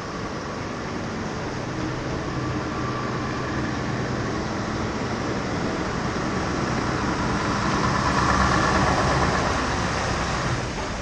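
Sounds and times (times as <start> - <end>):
truck engine passing: 1.1 - 11.0.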